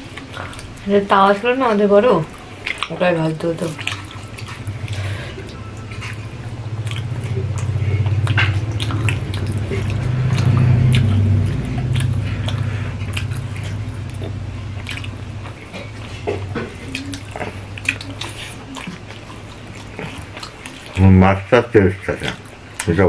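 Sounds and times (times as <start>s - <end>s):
low hum: 0.0s - 23.0s
wet chewing and lip-smacking: 0.0s - 23.0s.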